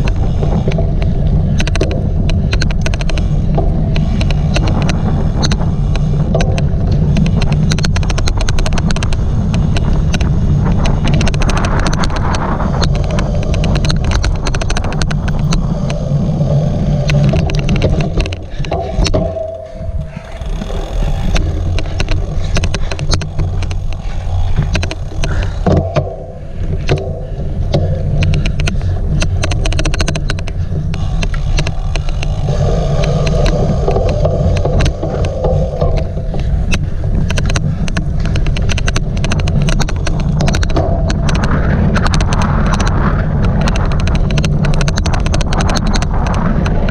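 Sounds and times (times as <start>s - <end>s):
rapid irregular clicking: 0.0s - 46.9s
wind rumble on microphone: 0.0s - 46.9s.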